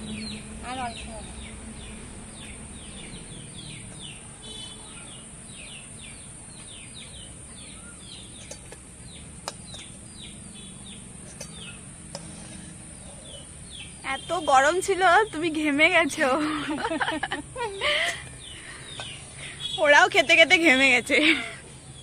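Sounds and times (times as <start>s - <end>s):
birds chirping: 0.0s - 22.0s
low background noise: 0.0s - 22.0s.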